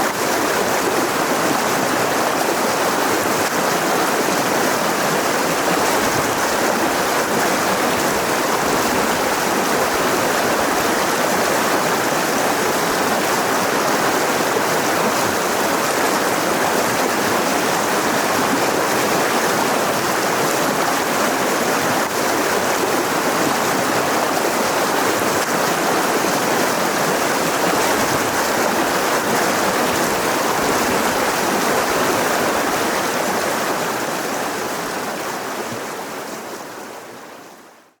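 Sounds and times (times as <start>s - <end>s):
river rushing over rocks: 0.0s - 37.8s.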